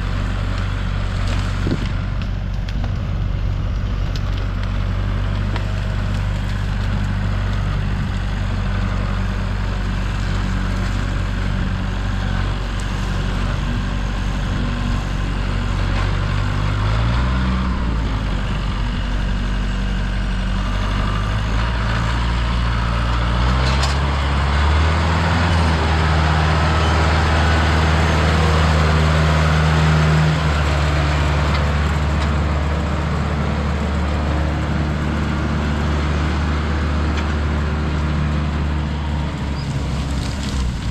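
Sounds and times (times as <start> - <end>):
heavy equipment engine running: 0.0 - 40.9.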